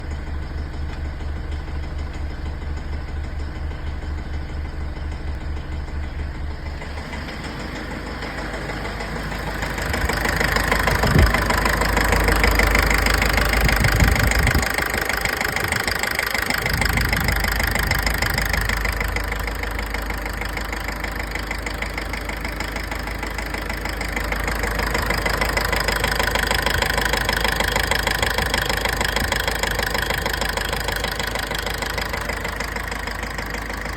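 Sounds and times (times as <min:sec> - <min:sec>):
diesel engine knocking: 0:00.0 - 0:33.9.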